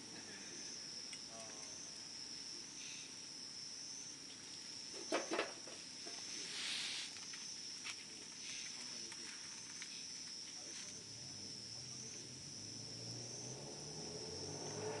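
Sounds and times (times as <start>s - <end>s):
campfire crackling: 0.0s - 12.4s
high-pitched insect trill: 0.0s - 15.0s.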